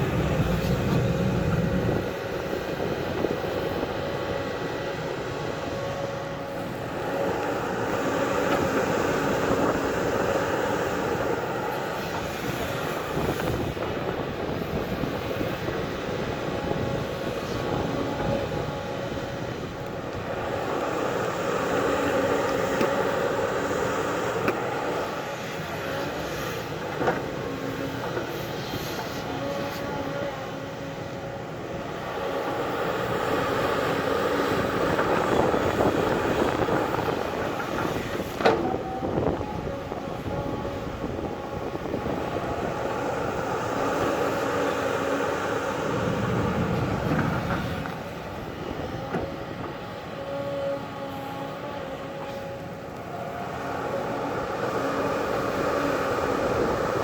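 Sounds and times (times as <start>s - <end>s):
diesel engine under load: 0.0s - 57.0s.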